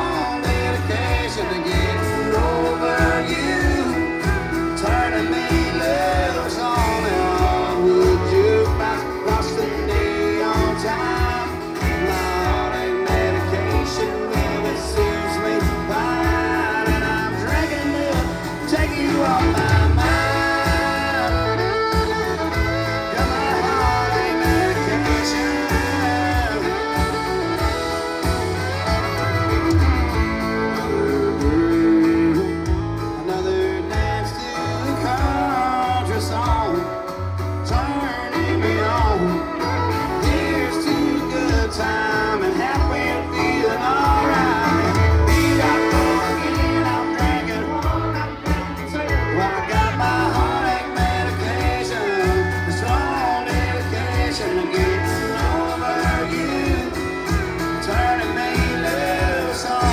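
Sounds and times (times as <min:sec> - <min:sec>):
steady drum beat: 0:00.0 - 0:36.9, 0:37.7 - 0:59.9
acoustic and electric guitar: 0:00.0 - 0:59.9
man singing lead: 0:00.0 - 0:59.9.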